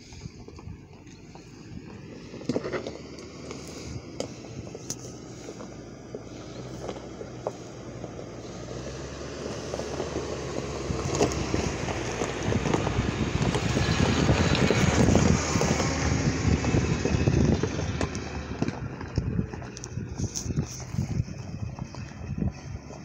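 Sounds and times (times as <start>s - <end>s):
low engine note: 0.0s - 23.0s
stones crunching under tyres: 0.0s - 23.0s.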